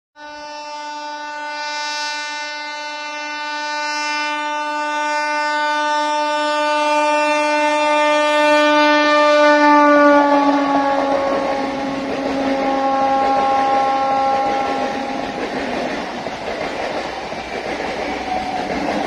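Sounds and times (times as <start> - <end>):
train horn long blast: 0.2 - 16.2.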